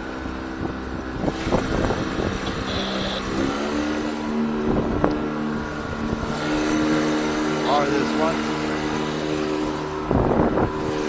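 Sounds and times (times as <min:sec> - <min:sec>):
wind on microphone: 0:00.0 - 0:07.6, 0:08.4 - 0:11.0
outboard motor running: 0:00.0 - 0:11.0.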